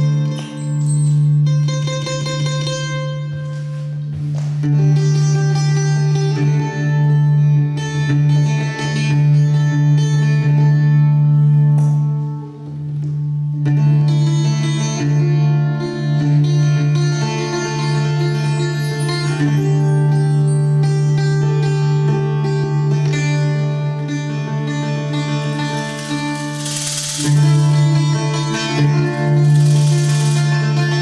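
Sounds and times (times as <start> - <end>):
plucked string instrument melody: 0.0 - 31.0.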